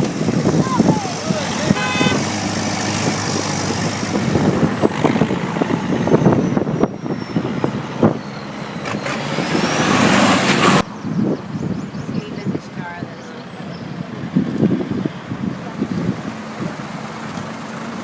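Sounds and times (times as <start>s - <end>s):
tractor engines rumbling: 0.0s - 18.0s.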